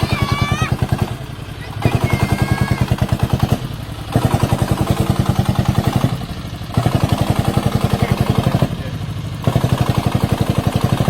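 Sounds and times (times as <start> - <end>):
diesel engine thudding: 0.0 - 11.0.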